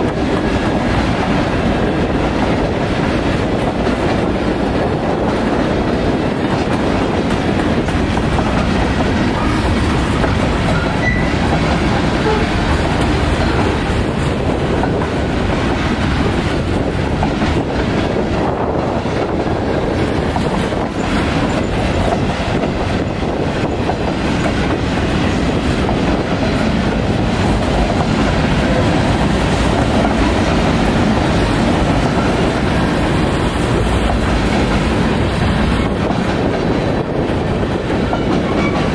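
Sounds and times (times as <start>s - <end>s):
steel train wheels on rail: 0.0s - 38.9s.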